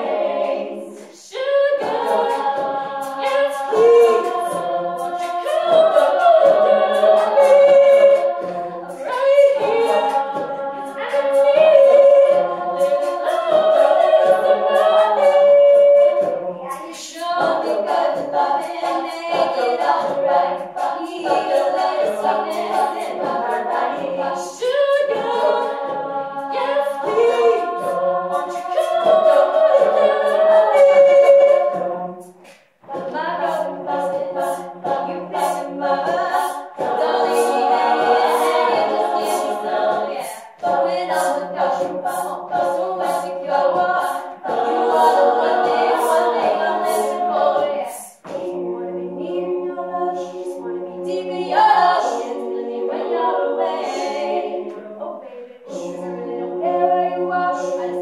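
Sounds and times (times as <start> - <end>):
women singing a cappella harmony: 0.0 - 58.0.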